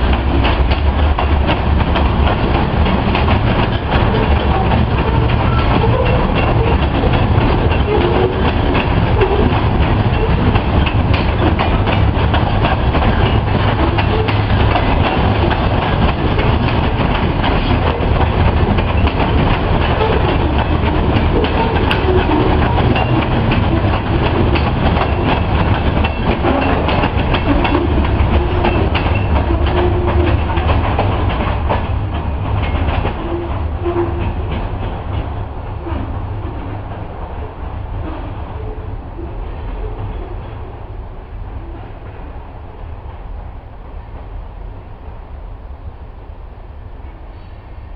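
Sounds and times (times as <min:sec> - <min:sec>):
train wheels clacking over rails: 0:00.0 - 0:40.9.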